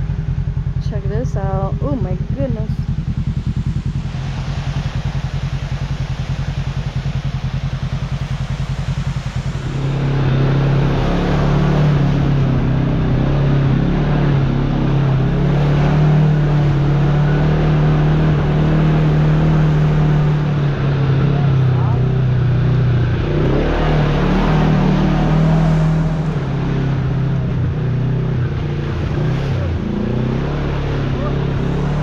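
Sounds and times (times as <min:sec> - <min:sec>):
side-by-side engine running: 0:00.0 - 0:32.0.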